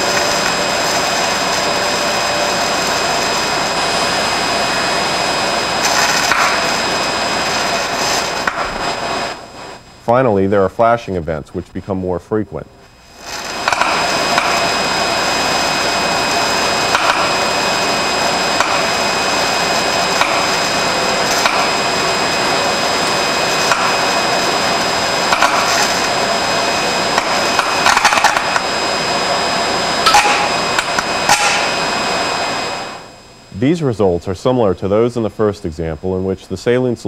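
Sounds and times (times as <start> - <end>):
sharp electrical cracks: 0.0 - 9.9, 13.0 - 33.1
electrical arcing crackling sizzle: 0.0 - 11.0, 12.9 - 35.9.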